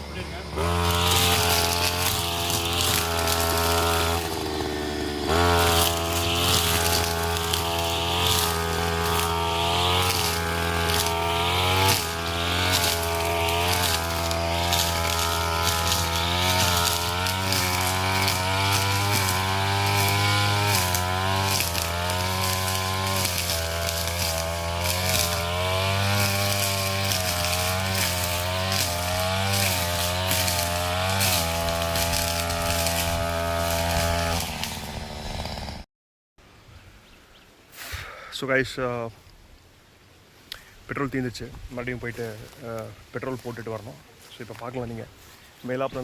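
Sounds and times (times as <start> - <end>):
brush cutter cutting grass: 0.0 - 35.8, 40.5 - 46.0.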